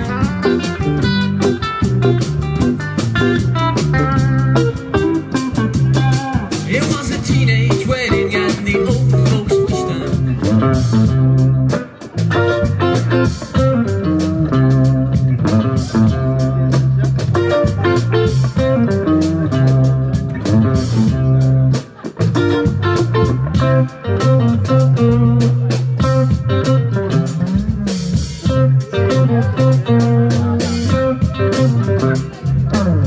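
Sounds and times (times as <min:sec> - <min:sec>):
bass guitar: 0:00.0 - 0:33.0
drum kit: 0:00.0 - 0:33.0
electric guitars: 0:00.0 - 0:33.0.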